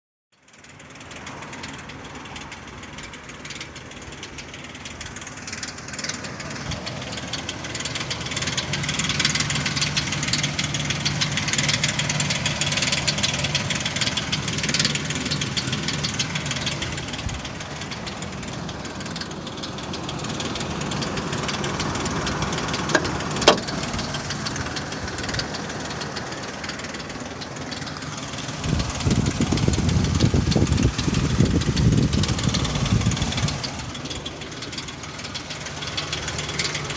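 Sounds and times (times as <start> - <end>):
car engine with fast rattle: 0.3 - 36.9.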